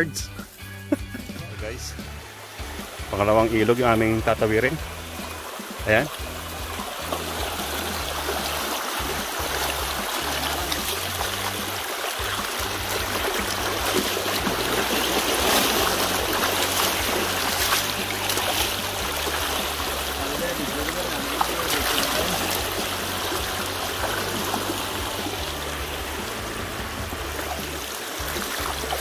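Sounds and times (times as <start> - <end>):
water sloshing around wading legs: 4.8 - 29.0
river rushing over rocks: 5.2 - 29.0.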